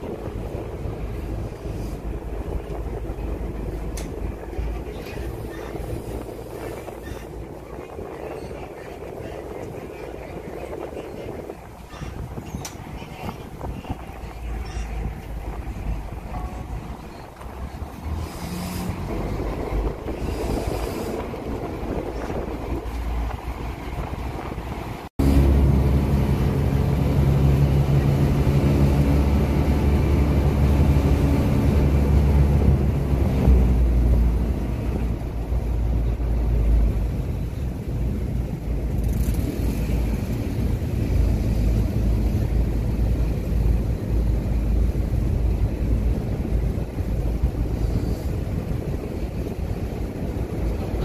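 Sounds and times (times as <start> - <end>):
boat engine humming: 0.0 - 51.0
wind buffeting microphone: 0.0 - 51.0.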